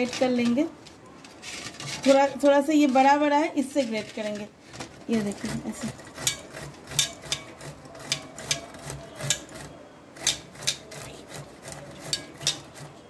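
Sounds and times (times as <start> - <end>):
vegetable grated on metal grater: 1.4 - 4.5, 5.1 - 13.0.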